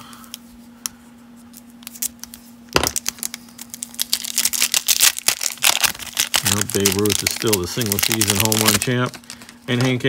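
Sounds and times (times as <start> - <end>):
cellophane ripping: 1.8 - 10.0
plastic wrapper crinkling: 1.8 - 10.0.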